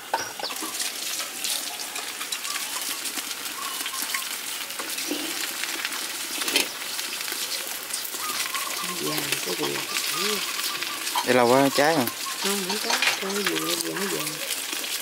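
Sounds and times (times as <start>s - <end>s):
batter sizzling in hot pan: 0.0s - 15.0s.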